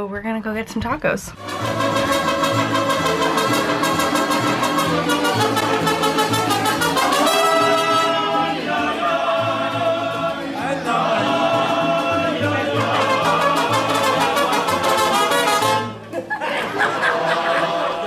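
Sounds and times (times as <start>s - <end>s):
music with beat brass and singing: 1.4s - 16.0s.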